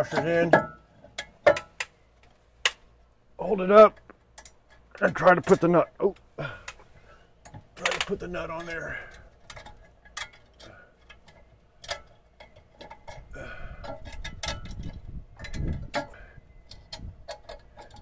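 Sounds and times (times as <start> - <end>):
metallic clicks of nut and bolt: 0.0 - 2.8, 3.9 - 5.8, 7.4 - 18.0.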